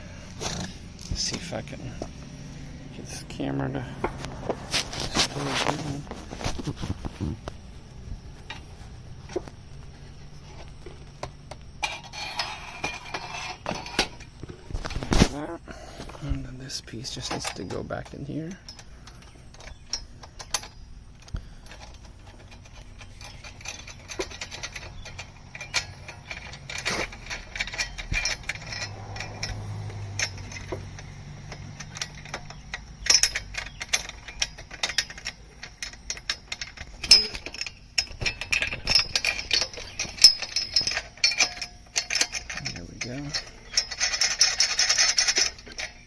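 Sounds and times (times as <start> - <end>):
metal parts clicking and rattling: 0.0 - 2.2, 2.9 - 7.7, 8.3 - 46.0.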